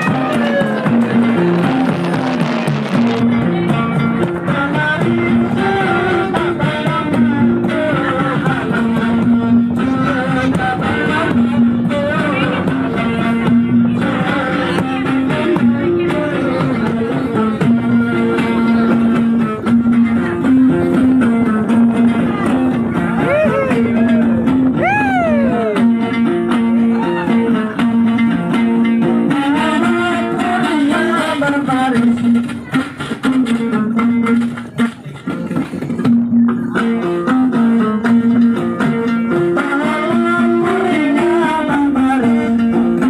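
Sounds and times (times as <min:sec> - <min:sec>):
guitar-driven song: 0:00.0 - 0:43.0.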